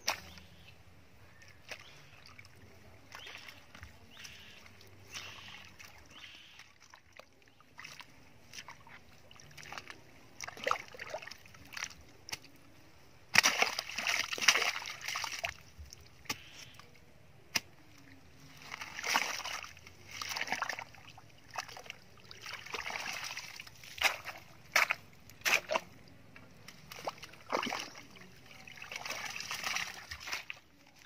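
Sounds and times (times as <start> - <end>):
shovel digging wet mud: 0.0 - 0.5, 3.1 - 6.6, 7.8 - 12.6, 13.3 - 16.9, 17.5 - 26.0, 26.6 - 31.0
muddy water splashing: 0.0 - 31.0.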